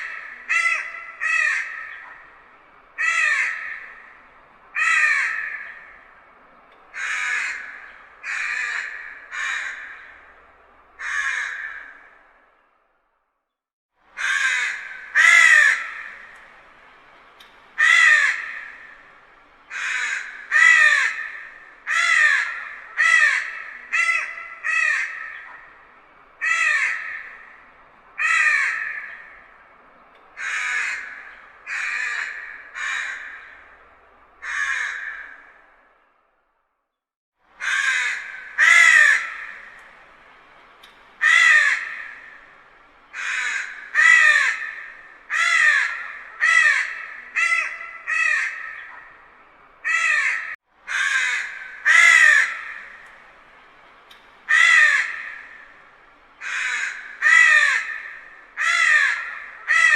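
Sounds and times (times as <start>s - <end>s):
crows cawing: 0.0s - 12.6s, 14.2s - 36.0s, 37.6s - 59.9s.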